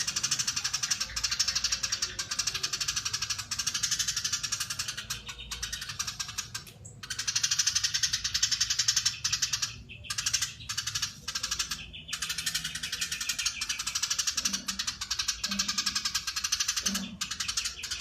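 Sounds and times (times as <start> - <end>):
sparrow chattering: 0.0 - 18.0.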